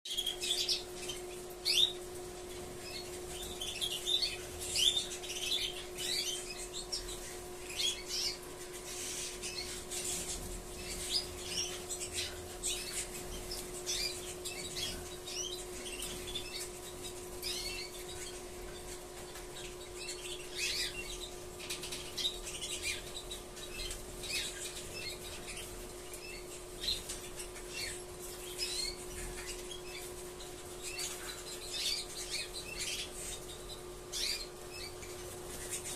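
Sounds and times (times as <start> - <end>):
canaries chirping: 0.1 - 35.9
steady hum: 0.1 - 35.9.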